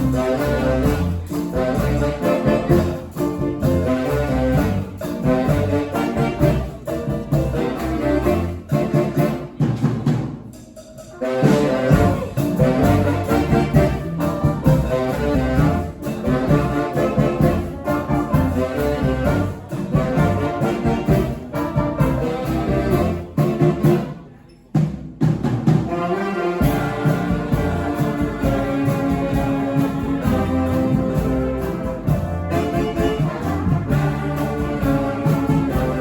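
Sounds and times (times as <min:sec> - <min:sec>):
brass band playing: 0:00.0 - 0:24.4, 0:25.2 - 0:36.0.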